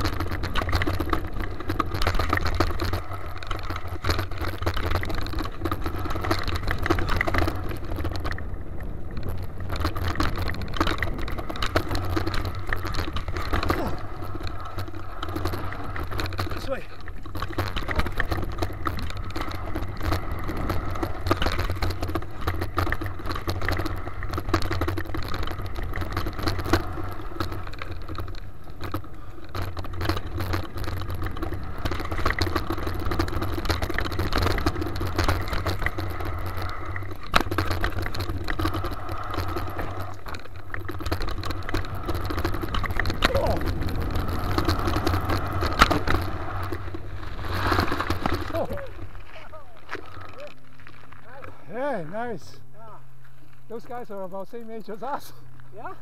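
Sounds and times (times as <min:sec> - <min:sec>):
wind noise: 0:00.0 - 0:52.4
bike rattling and clicking: 0:00.0 - 0:56.0
bike tyre rumble: 0:00.0 - 0:56.0.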